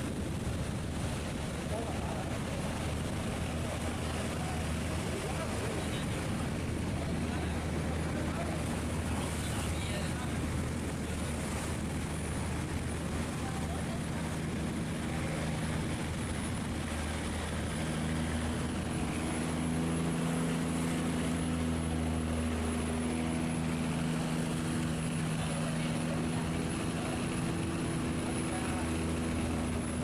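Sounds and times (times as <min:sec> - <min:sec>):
boat engine humming: 0:00.0 - 0:30.0
steady rushing noise: 0:00.0 - 0:30.0.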